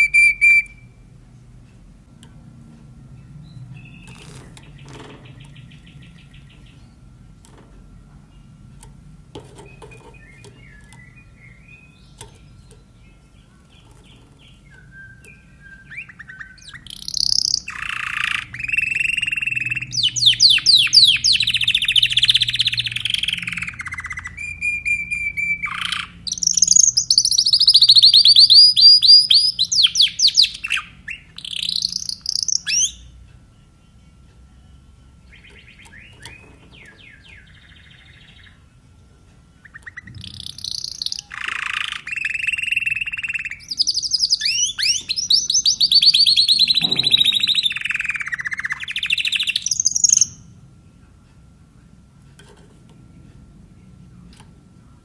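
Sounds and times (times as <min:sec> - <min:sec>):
canary singing rolling trills: 0:00.0 - 0:01.2, 0:01.9 - 0:50.7.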